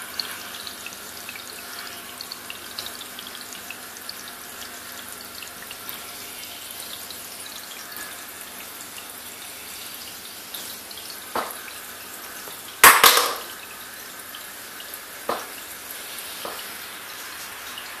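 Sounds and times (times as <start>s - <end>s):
water drips and splashes: 0.0s - 18.0s
water trickling: 0.0s - 18.0s.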